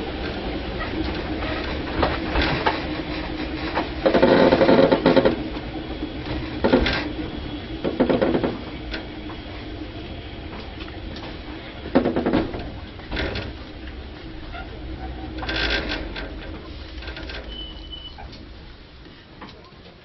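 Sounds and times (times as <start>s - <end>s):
train motor and gear hum: 0.0s - 20.0s
train wheels clattering on track: 0.0s - 20.0s.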